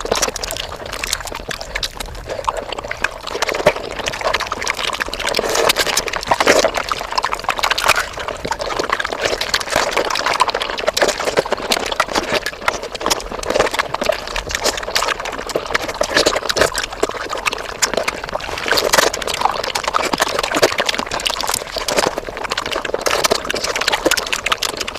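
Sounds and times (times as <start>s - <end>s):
rapid wet chewing and slurping: 0.0s - 24.9s.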